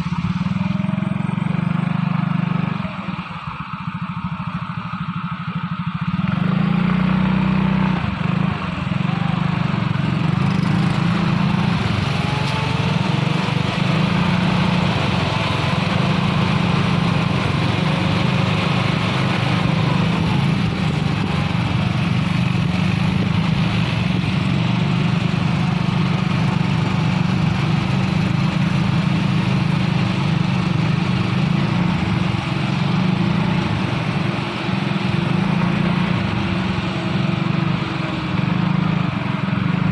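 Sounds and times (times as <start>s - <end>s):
truck engine droning under load: 0.0s - 39.9s.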